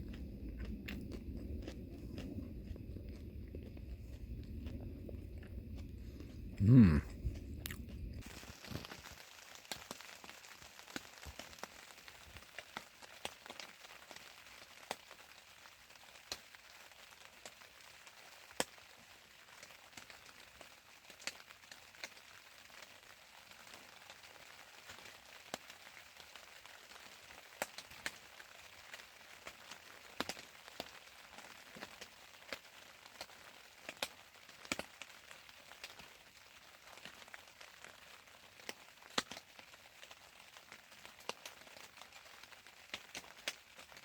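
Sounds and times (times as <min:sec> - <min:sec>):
campfire crackling: 0:00.0 - 0:44.0.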